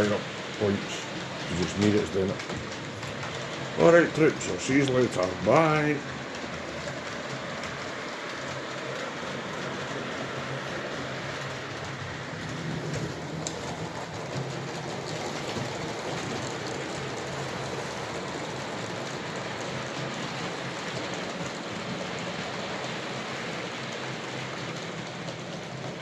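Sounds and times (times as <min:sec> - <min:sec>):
locomotive motor hum: 0:00.0 - 0:26.0
model train wheels rumbling: 0:00.0 - 0:26.0.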